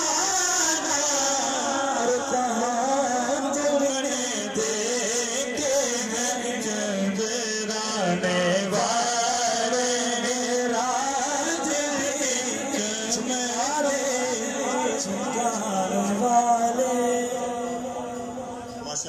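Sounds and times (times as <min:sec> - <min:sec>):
man singing melismatic notes: 0:00.0 - 0:19.0.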